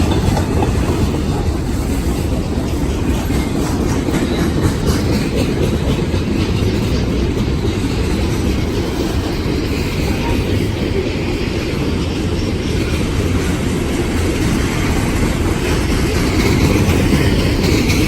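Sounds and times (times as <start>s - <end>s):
freight train rumbling: 0.0s - 18.0s
wheels clicking over rail joints: 0.0s - 18.0s.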